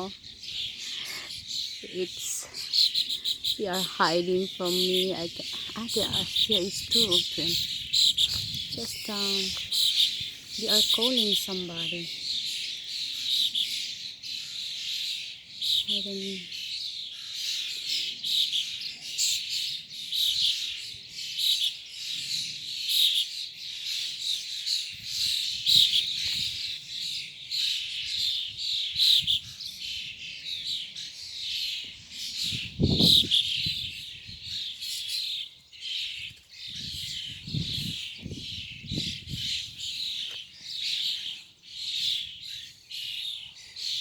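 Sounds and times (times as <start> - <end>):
flock of birds chirping: 0.0 - 44.0.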